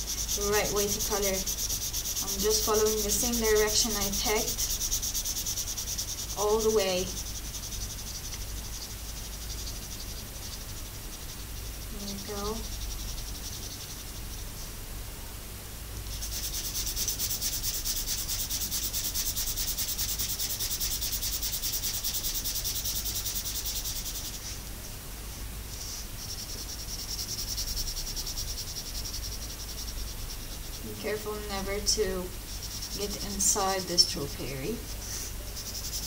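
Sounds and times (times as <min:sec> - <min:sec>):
felt-tip marker rubbing on paper: 0:00.0 - 0:14.4, 0:16.1 - 0:24.6, 0:25.8 - 0:36.0.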